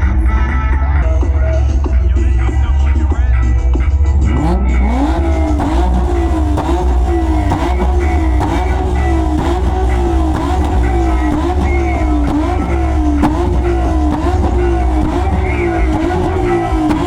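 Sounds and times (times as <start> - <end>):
heavy bass beat: 0.0 - 17.0
car engine revving: 1.7 - 17.0.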